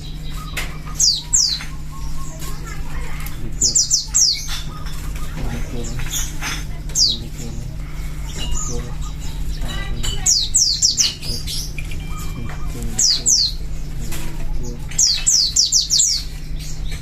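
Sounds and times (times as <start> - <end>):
birds singing high whistles: 0.0 - 17.0
steady low hum: 0.0 - 17.0.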